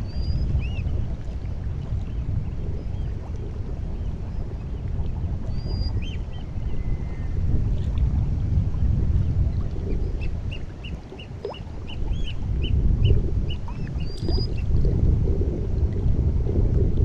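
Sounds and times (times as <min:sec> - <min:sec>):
sea water lapping: 0:00.0 - 0:17.0
wind on the shore: 0:00.0 - 0:17.0.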